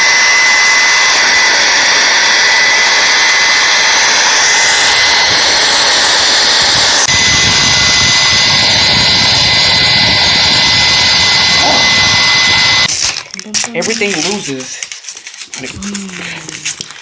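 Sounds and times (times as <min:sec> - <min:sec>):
hair dryer running: 0:00.0 - 0:14.7.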